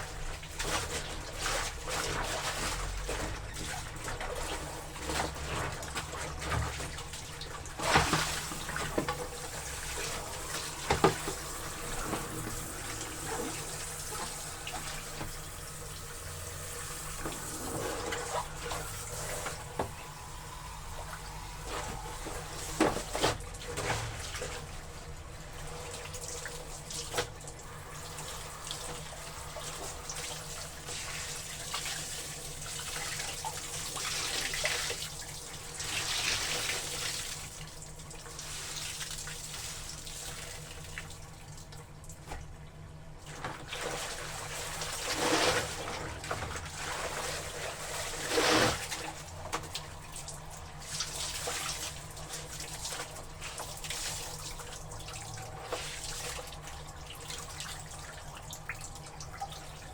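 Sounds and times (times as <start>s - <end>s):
water sloshing in a tub: 0.0s - 59.9s.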